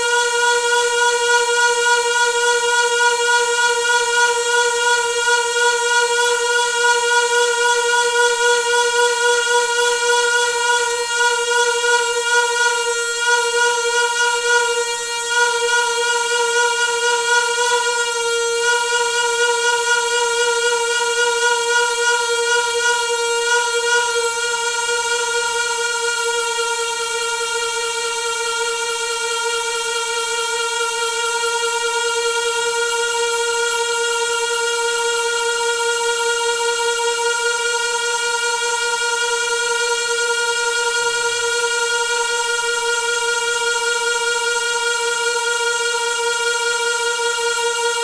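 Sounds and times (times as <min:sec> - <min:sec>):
water pipe high-pitched hum: 0:00.0 - 0:48.0.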